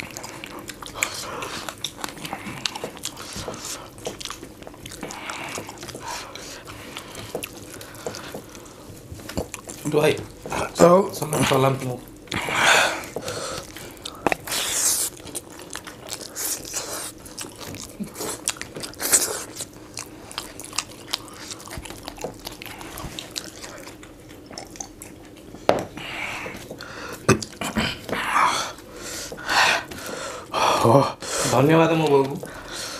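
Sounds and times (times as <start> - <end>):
people chewing food: 0.0 - 32.9.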